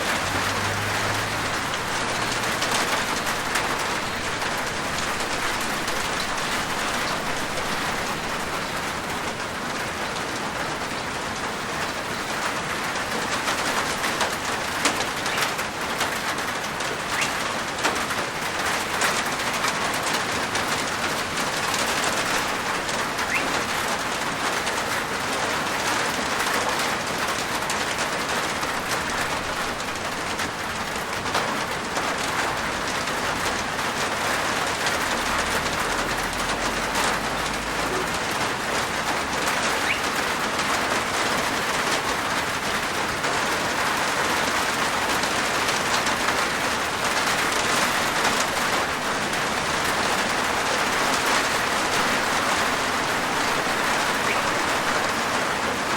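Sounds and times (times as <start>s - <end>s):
rain on a rooftop: 0.0s - 55.9s.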